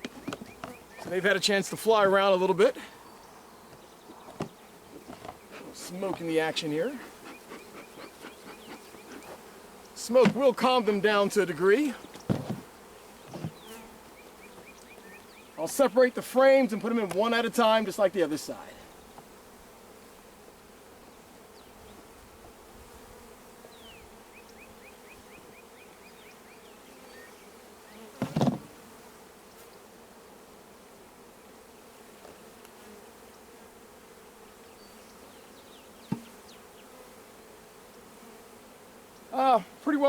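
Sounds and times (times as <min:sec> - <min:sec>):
honeybees humming: 0:00.0 - 0:40.0.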